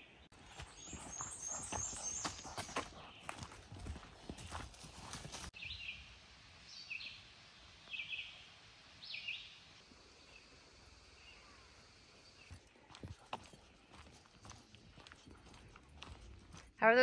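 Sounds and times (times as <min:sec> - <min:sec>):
songbird singing: 0:00.0 - 0:16.7.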